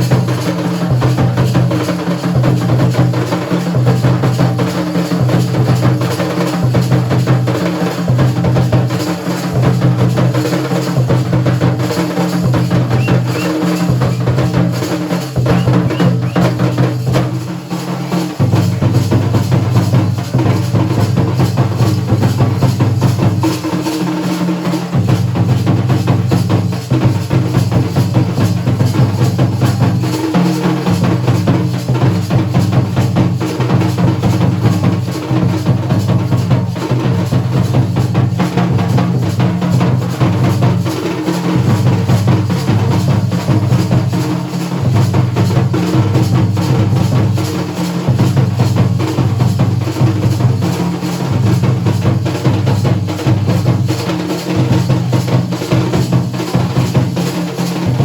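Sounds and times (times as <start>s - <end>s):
fast drumming: 0.0s - 58.0s.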